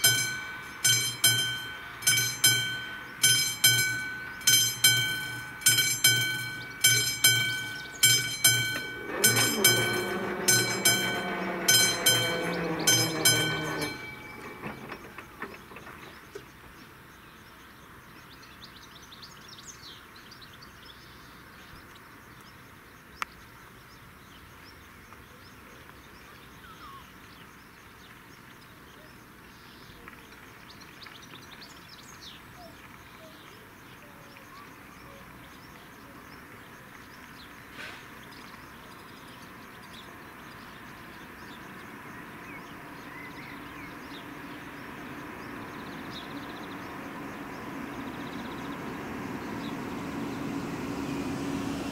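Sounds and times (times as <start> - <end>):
birds chirping: 0.0 - 51.9
outdoor background noise: 0.0 - 51.9.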